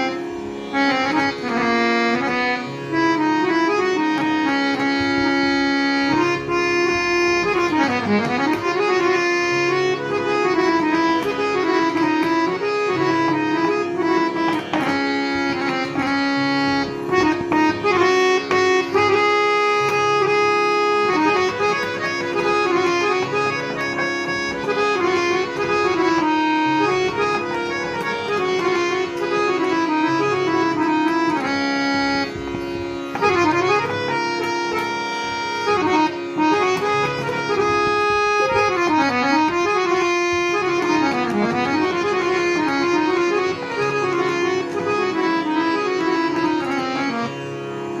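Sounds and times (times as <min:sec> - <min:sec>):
harmonium playing: 0:00.0 - 0:48.0.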